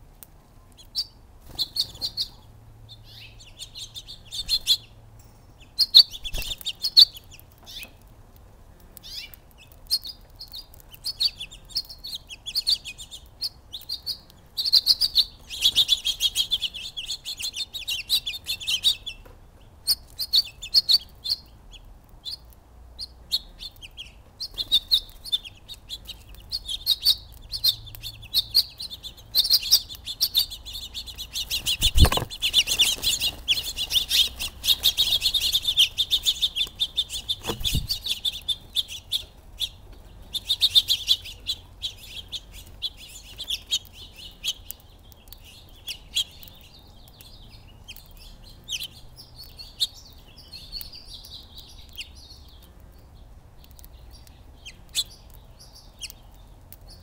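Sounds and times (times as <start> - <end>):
sparrows and finches chirping: 0.5 - 57.0.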